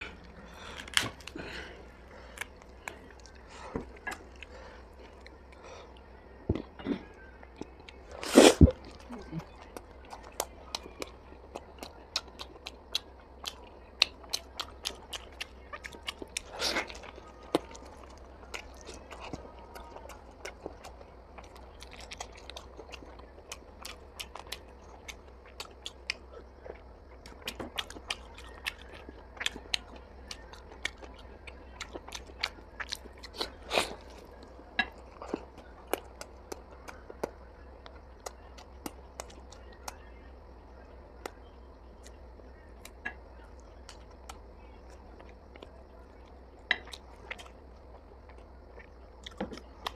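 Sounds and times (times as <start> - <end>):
person chewing food: 0.0 - 40.1, 41.1 - 49.9.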